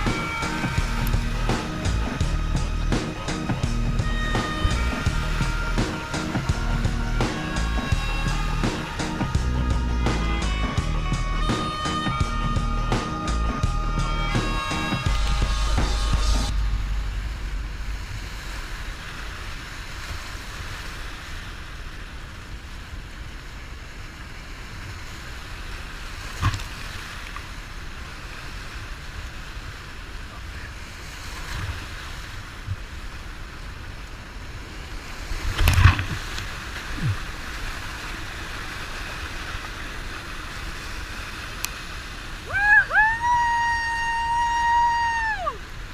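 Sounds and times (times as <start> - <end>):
water washing around a kayak: 0.0 - 12.4, 14.0 - 45.9
wind rumbling on microphone: 0.0 - 45.9.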